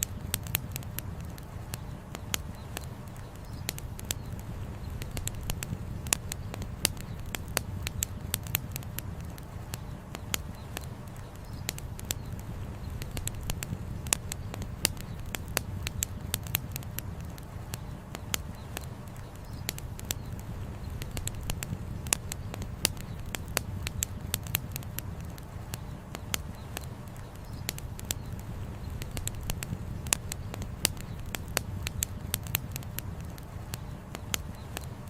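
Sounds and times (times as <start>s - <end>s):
campfire crackling: 0.0s - 35.0s
sharp pops: 0.0s - 35.0s.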